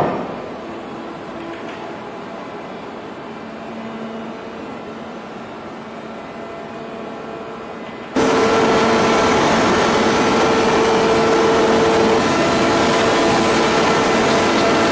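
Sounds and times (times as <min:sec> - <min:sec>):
machinery hum with constant tone: 0:00.0 - 0:14.9.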